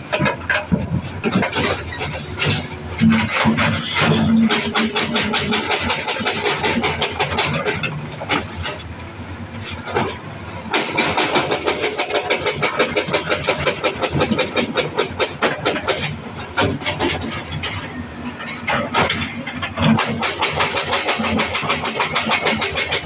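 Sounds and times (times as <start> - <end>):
diesel engine clattering: 0.0 - 23.0.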